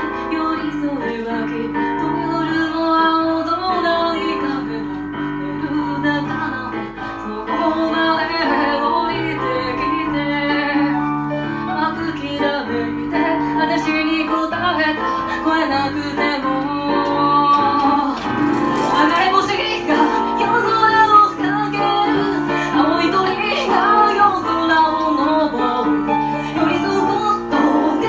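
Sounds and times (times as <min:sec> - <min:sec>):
instrumental backing with bass: 0:00.0 - 0:28.0
person singing: 0:00.0 - 0:28.0.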